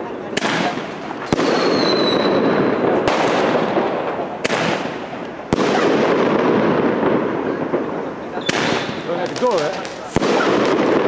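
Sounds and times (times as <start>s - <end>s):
crackling hiss: 0.0s - 11.0s
roman candle shots: 0.0s - 11.0s.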